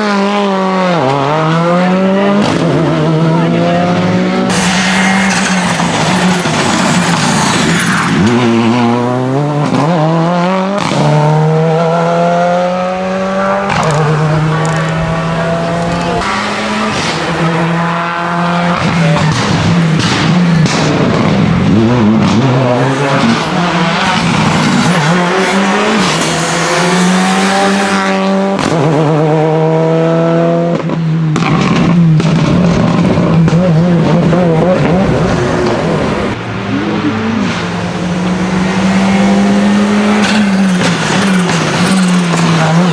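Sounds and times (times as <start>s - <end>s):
rally car engine accelerating: 0.0s - 42.9s.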